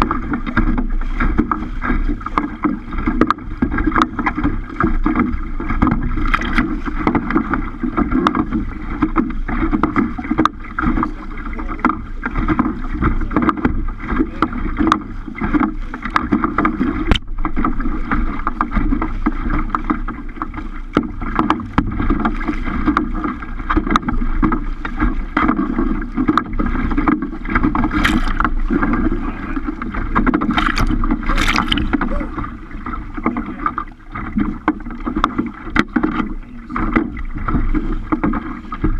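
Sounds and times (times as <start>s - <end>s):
water splashing against kayak: 0.0s - 38.9s
wind rumble on microphone: 0.0s - 38.9s.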